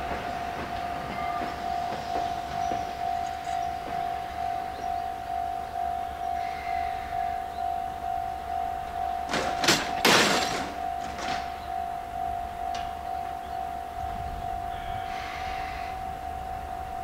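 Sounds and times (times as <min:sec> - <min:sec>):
level-crossing warning bell ringing: 0:00.0 - 0:17.0.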